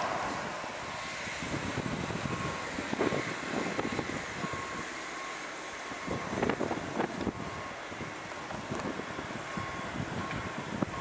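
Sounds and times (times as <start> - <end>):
wind buffeting microphone: 0.0 - 5.0, 5.9 - 11.0
jet engines idling: 0.0 - 11.0.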